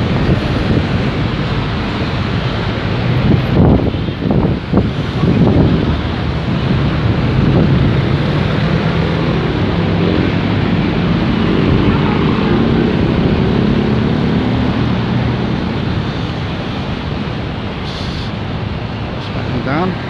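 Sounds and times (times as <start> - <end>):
car engines running: 0.0 - 20.0
traffic noise: 0.0 - 20.0.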